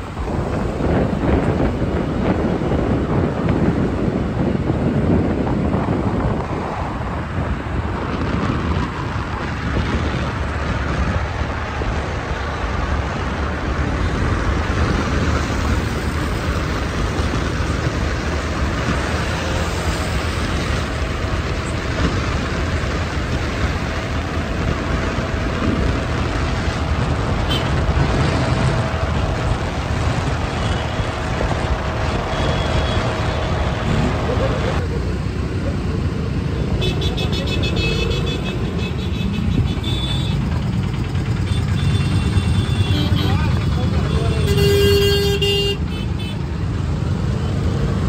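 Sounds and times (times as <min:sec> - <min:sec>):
vehicle road noise: 0:00.0 - 0:48.0
wind rushing over microphone: 0:00.0 - 0:48.0.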